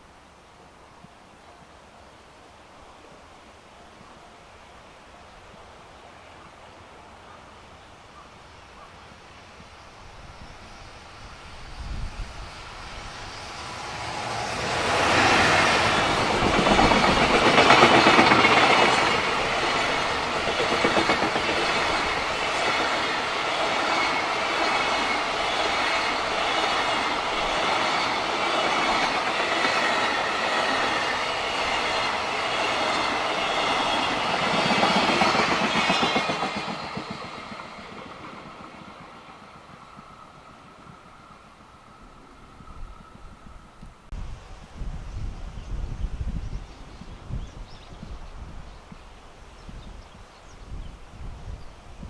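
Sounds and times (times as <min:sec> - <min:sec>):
electric locomotive passing: 0:00.0 - 0:52.0.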